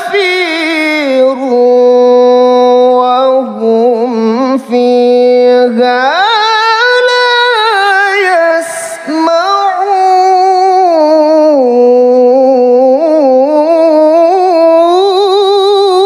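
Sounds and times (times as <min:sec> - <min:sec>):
man chanting melodic recitation: 0:00.0 - 0:16.0.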